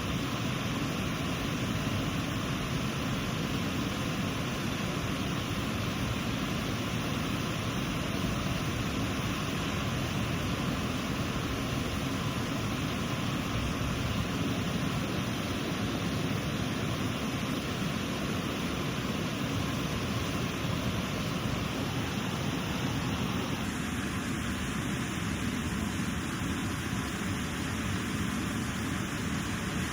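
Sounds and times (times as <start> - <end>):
waterfall roaring: 0.0 - 29.9.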